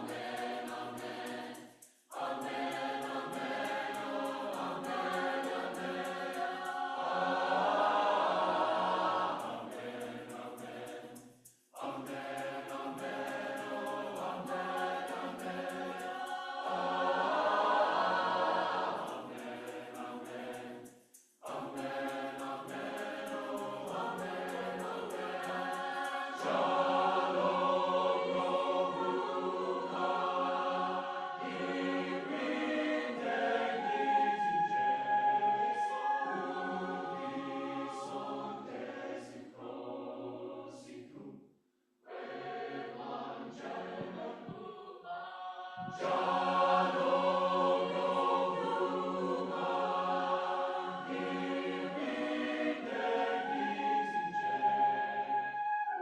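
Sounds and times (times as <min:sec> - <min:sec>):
shaker beat: 0:00.0 - 0:39.2, 0:45.8 - 0:56.0
choir singing: 0:00.0 - 0:41.4, 0:42.1 - 0:56.0.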